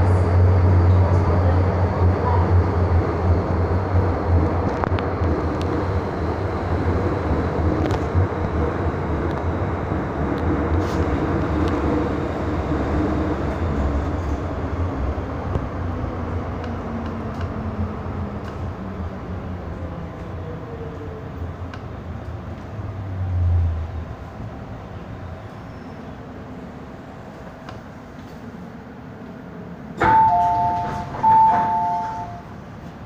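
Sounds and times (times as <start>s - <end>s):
subway car wheels rumbling: 0.0s - 33.0s.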